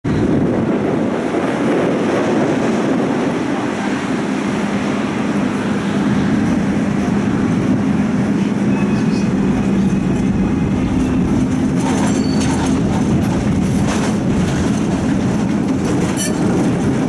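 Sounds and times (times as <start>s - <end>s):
tram wheels rumbling on rail: 0.0s - 17.0s.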